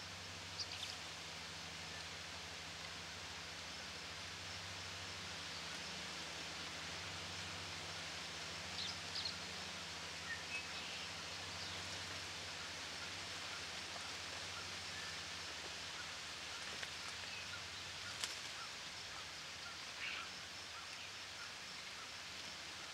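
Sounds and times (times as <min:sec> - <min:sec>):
outdoor hiss: 0:00.0 - 0:22.9.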